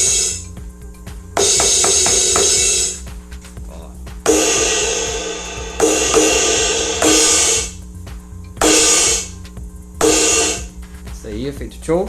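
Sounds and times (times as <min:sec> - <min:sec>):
choked electronic cymbal crashes: 0:00.0 - 0:12.0.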